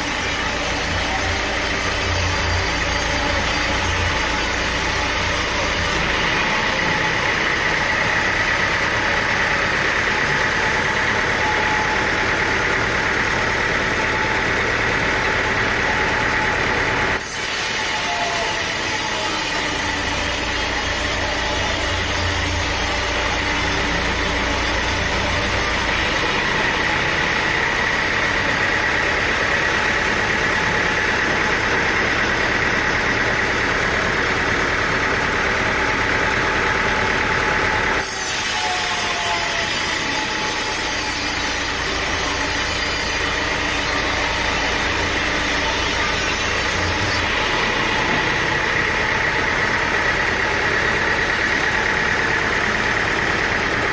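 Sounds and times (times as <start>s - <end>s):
sawmill saw cutting timber: 0.0s - 53.9s.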